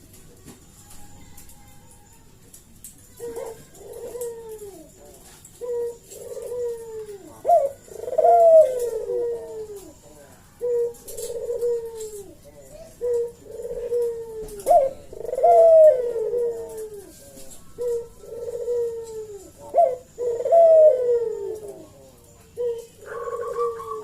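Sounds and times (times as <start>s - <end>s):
dove cooing: 2.8s - 24.0s.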